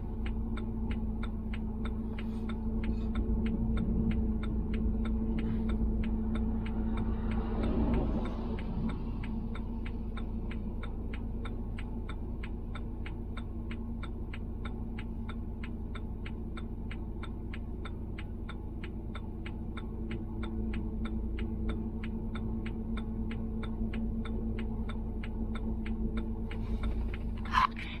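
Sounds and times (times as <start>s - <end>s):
low vehicle hum: 0.0s - 28.0s
vehicle flasher ticking: 0.0s - 28.0s.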